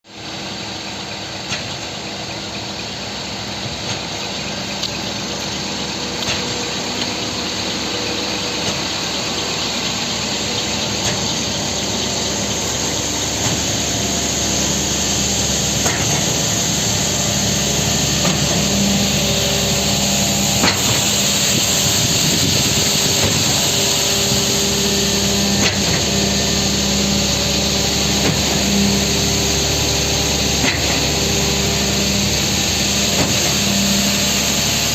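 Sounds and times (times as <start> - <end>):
concrete mixer truck humming: 0.1 - 34.9.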